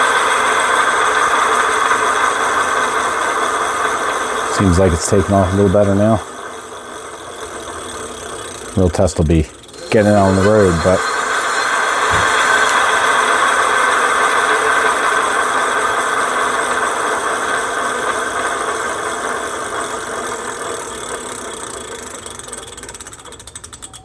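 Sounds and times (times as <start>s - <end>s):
electric bike motor whirring: 0.0s - 24.0s.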